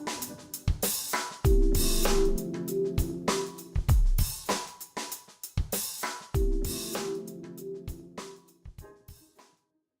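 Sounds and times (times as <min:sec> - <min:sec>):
music with drums and cymbals: 0:00.0 - 0:09.6.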